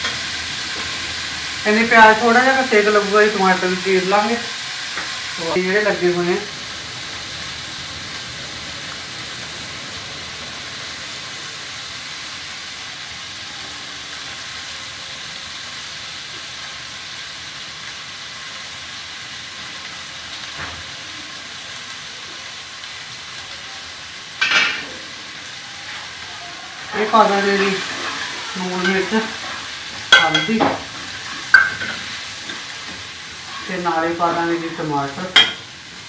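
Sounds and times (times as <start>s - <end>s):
onions sizzling in oil: 0.0s - 36.0s.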